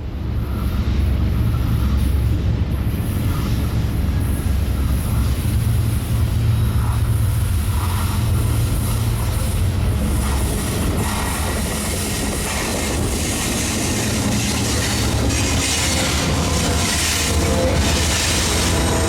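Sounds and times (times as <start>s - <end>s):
freight cars rolling on rails: 0.0s - 19.0s
locomotive engine drone: 0.0s - 19.0s.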